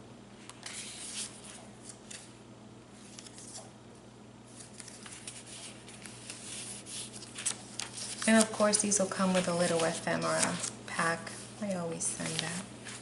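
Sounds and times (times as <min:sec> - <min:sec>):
pages turning: 0:00.6 - 0:02.3, 0:03.0 - 0:03.7, 0:04.5 - 0:13.0
paper rustling: 0:00.6 - 0:02.3, 0:03.0 - 0:03.7, 0:04.5 - 0:13.0.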